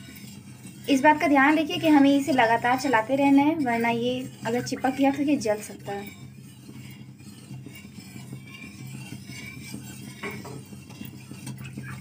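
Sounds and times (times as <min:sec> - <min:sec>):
spatula scraping metal pan: 0:00.0 - 0:12.0.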